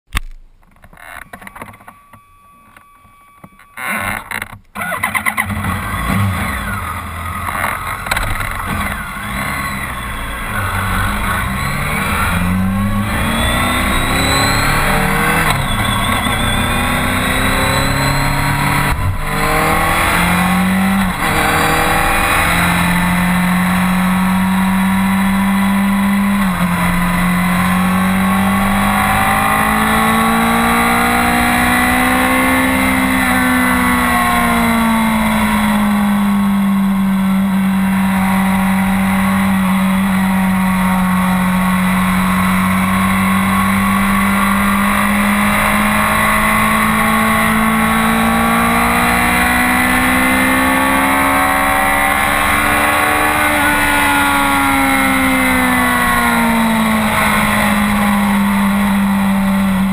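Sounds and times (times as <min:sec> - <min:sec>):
motorcycle engine accelerating: 0:03.8 - 0:59.9.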